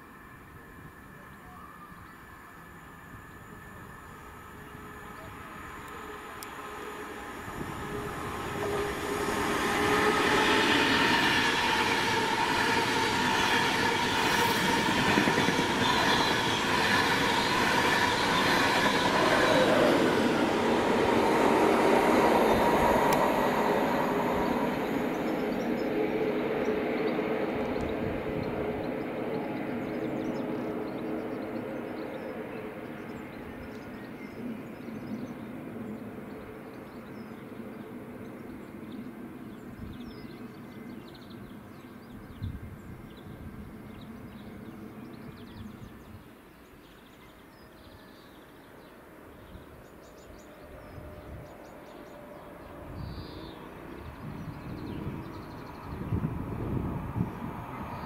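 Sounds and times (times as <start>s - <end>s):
electric train passing at speed: 0.0s - 58.0s.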